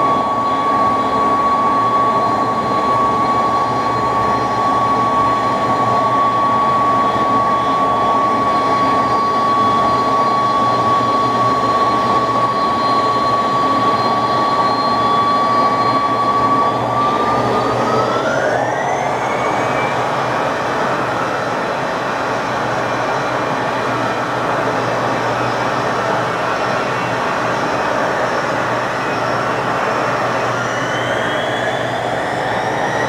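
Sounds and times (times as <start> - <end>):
jet engines roaring with whine: 0.0 - 33.0.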